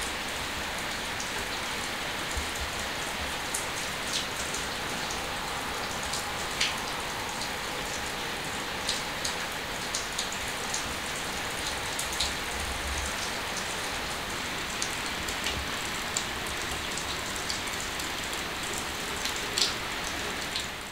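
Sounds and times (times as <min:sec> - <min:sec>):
louder raindrops: 0:00.0 - 0:20.9
steady rain: 0:00.0 - 0:20.9.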